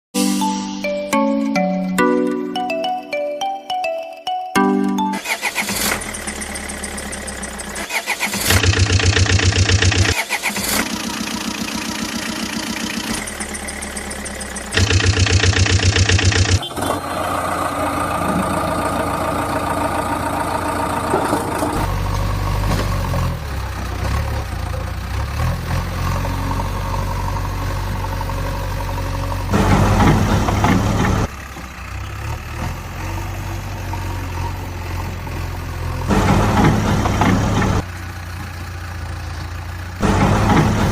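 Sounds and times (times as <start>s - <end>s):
vehicle engine running: 5.2s - 40.9s.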